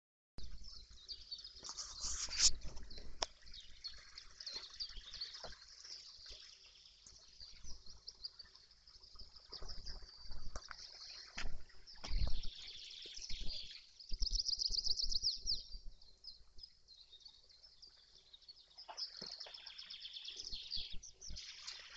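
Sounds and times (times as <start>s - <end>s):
birds singing and chirping: 0.5s - 21.9s.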